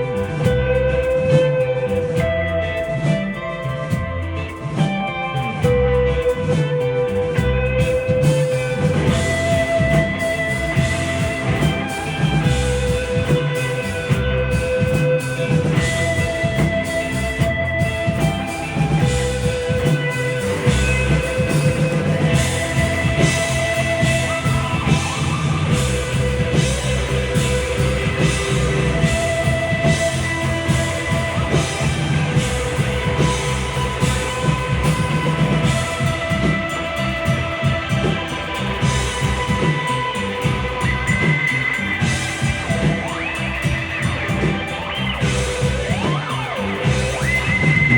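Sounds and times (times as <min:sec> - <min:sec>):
bass guitar: 0:00.0 - 0:47.9
drum kit: 0:00.0 - 0:47.9
electric guitar notes: 0:00.0 - 0:47.9.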